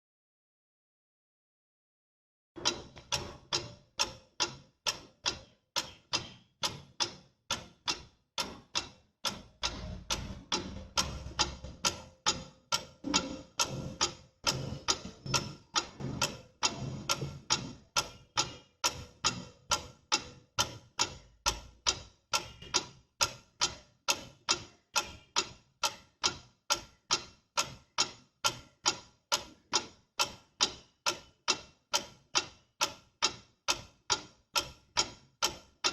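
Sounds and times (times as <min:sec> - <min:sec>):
pendulum clock ticking: 0:02.6 - 0:35.9.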